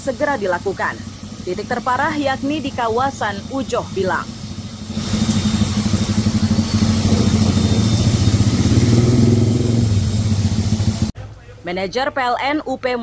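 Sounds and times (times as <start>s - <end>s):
hose nozzle spraying: 0.0s - 11.1s
small engine running: 0.0s - 11.2s.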